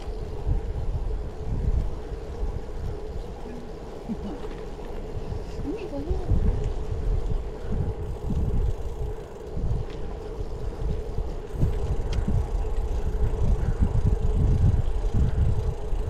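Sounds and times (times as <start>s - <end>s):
bicycle road rumble: 0.0s - 16.0s
wind buffeting microphone: 0.0s - 16.0s.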